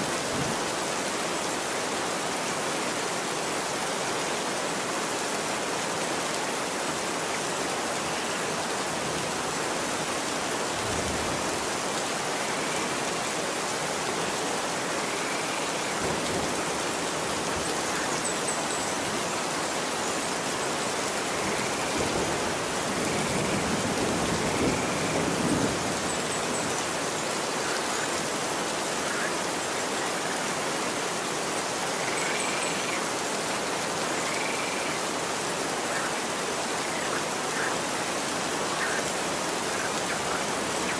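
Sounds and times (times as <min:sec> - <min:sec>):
rain falling on a street: 0:00.0 - 0:40.9.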